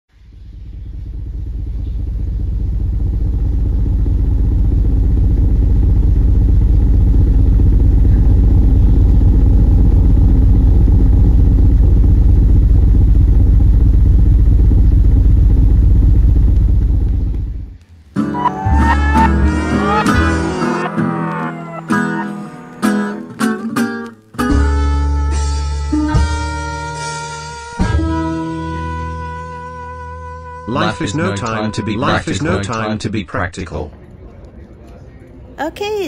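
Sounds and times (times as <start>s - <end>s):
low rumbling crackling drone: 0.1s - 35.6s.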